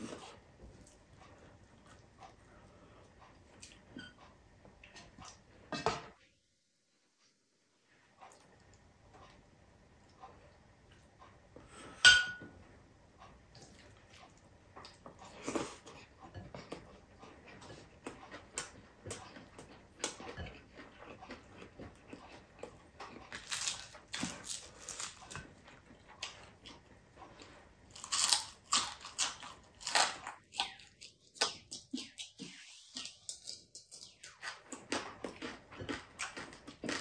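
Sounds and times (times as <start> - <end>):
chewing and crunching food: 0.0 - 5.7, 8.0 - 11.9, 12.6 - 37.0.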